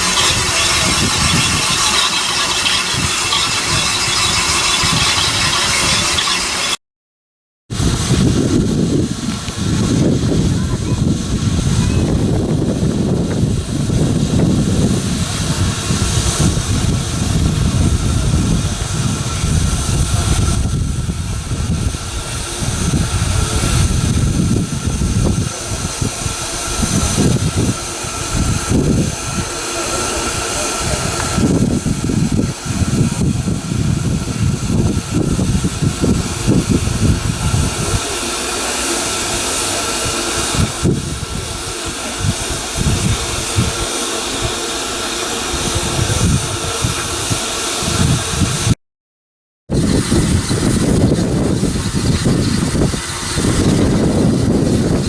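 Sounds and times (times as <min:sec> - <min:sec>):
train rumbling: 0:00.0 - 0:06.8, 0:07.7 - 0:48.7.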